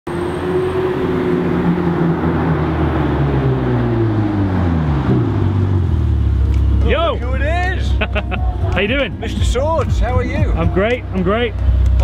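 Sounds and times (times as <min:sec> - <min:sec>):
sports car engine slowing down: 0:00.1 - 0:12.0.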